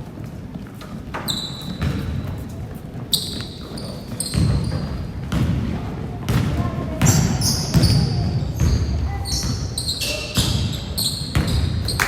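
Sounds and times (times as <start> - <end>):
sneakers squeaking on court: 0.2 - 12.0
basketball bouncing on gym floor: 1.1 - 2.5, 3.2 - 12.0.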